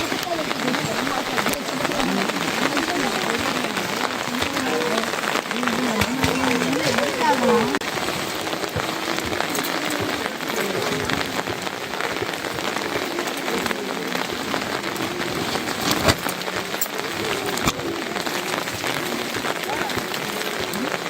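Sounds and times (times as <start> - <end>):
heavy rain falling: 0.0 - 21.0
raindrops hitting close by: 0.0 - 21.0.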